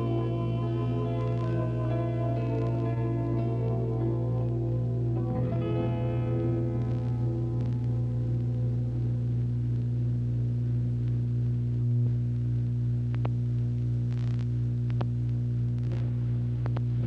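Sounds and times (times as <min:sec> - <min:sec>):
electrical mains hum: 0:00.0 - 0:17.0
faint clicks and crackles: 0:00.0 - 0:17.0.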